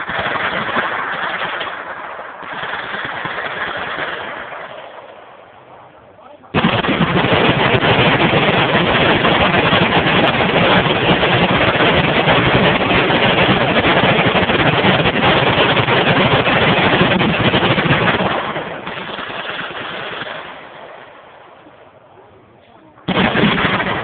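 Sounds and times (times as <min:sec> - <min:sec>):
machine guns firing: 0:00.0 - 0:04.9, 0:06.5 - 0:20.7, 0:23.0 - 0:24.0.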